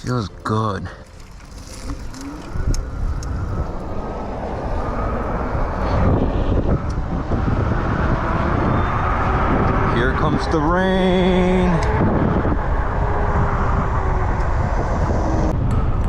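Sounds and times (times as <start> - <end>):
road noise: 0.0 - 16.0
wind rushing over microphone: 1.1 - 16.0.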